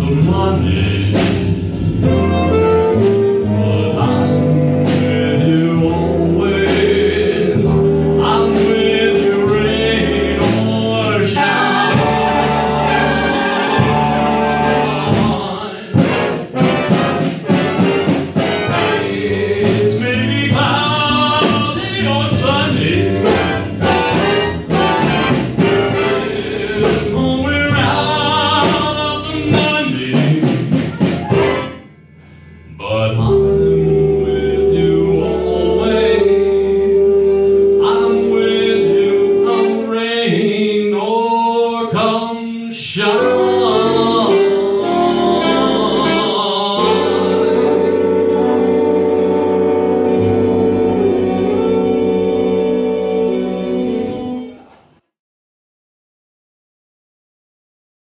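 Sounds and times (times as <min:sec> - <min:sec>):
brass section playing: 0:00.0 - 0:30.2, 0:30.8 - 0:40.5, 0:43.0 - 0:54.7
big band jazz: 0:00.0 - 0:55.0.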